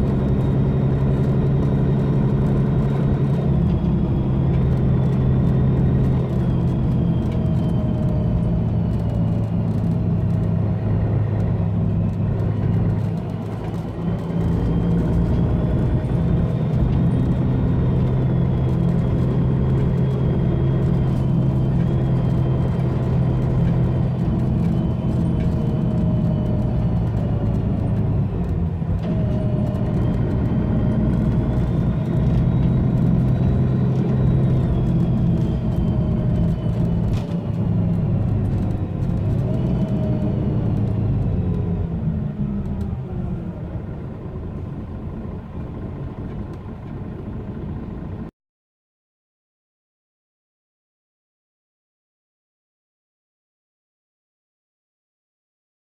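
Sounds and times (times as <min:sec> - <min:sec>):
diesel bus engine drone: 0:00.0 - 0:48.3.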